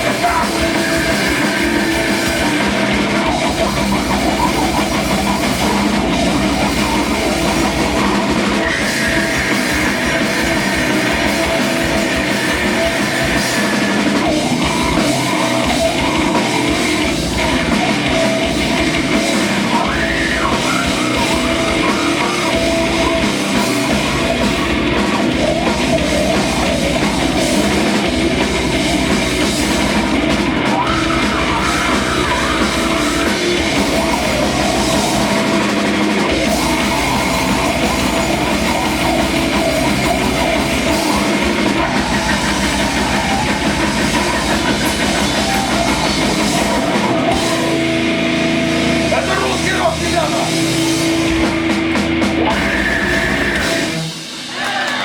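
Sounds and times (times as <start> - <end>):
distorted electric guitar: 0.0 - 54.8
bass guitar: 0.0 - 55.0
drum kit: 0.0 - 55.0.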